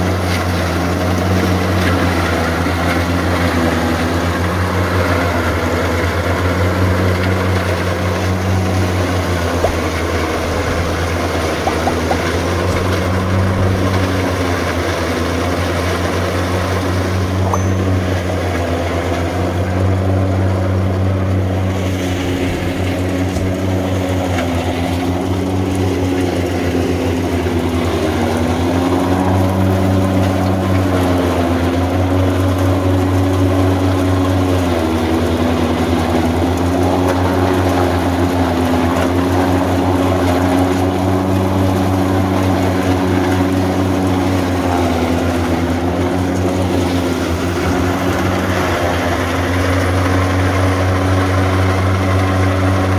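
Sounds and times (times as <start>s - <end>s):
forage chopper chopping straw: 0.0s - 52.9s
tractor engine running: 0.0s - 52.9s.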